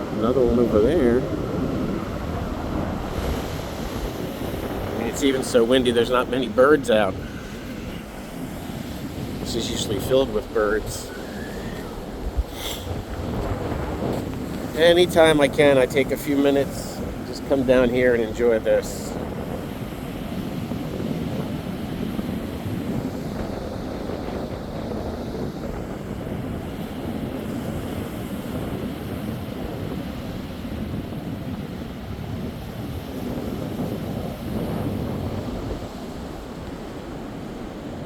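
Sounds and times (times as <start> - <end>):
waves breaking on beach: 0.0 - 38.0
wind buffeting microphone: 0.0 - 38.0.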